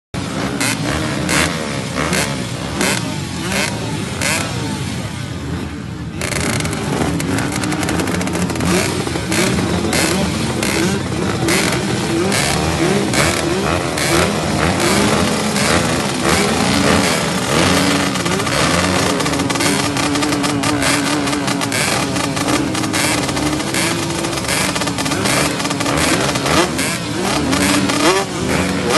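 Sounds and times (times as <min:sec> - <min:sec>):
motorbike engines revving: 0:00.2 - 0:28.9.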